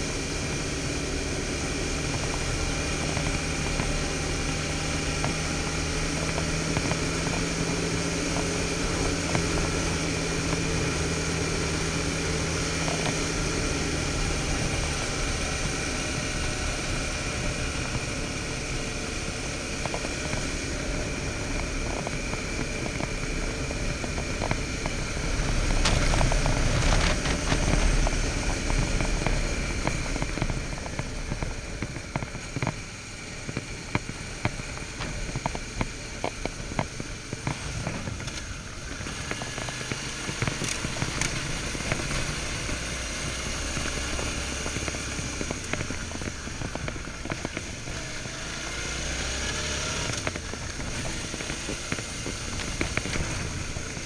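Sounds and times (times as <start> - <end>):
gravel crackling under tyres: 0.0 - 54.0
motorcycle engine running: 0.0 - 54.0.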